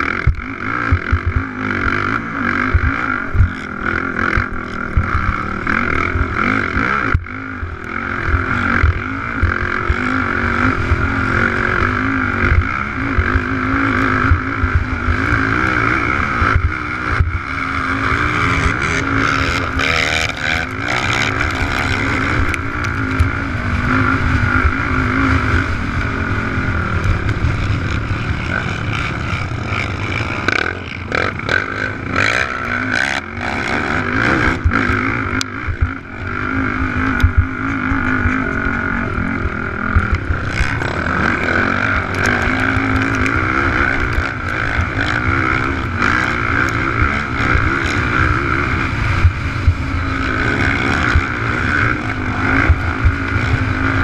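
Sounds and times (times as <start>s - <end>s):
quad engine revving hard: 0.0s - 54.0s.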